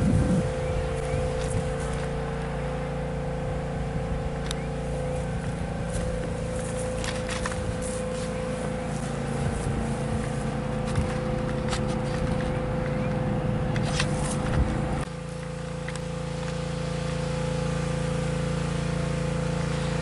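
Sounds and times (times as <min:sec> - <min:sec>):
small gasoline engine running: 0:00.0 - 0:20.0.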